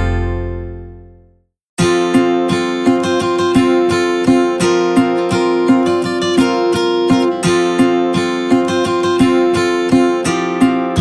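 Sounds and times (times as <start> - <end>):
acoustic guitar strumming: 0.0 - 0.9, 1.8 - 11.0.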